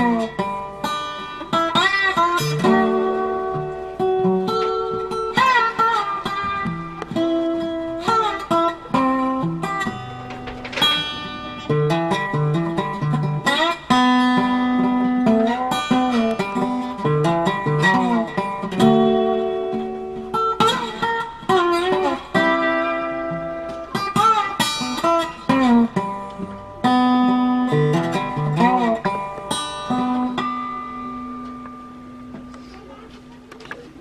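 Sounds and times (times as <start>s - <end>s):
guitar with bent notes: 0.0s - 34.0s.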